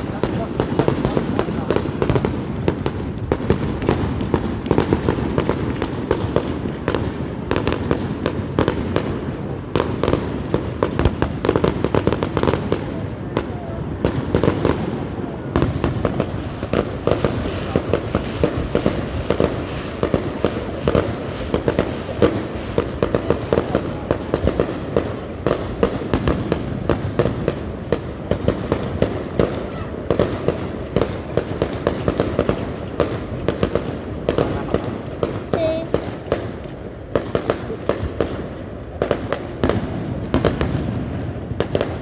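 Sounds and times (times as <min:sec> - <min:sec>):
fireworks bangs and pops: 0:00.0 - 0:42.0
rumble of distant explosions: 0:00.0 - 0:42.0.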